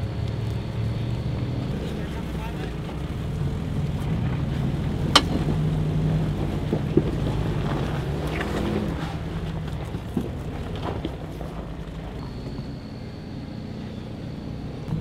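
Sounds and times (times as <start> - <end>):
jeep engine running at low speed: 0.0 - 15.0.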